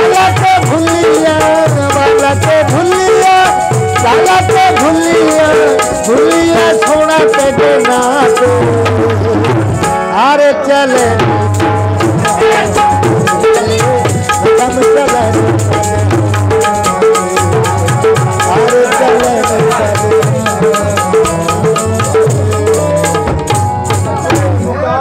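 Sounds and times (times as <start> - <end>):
fast drum beat: 0.0 - 10.0, 11.0 - 24.6
rattling percussion: 0.0 - 10.2, 10.9 - 24.7
harmonium melody: 0.0 - 25.0.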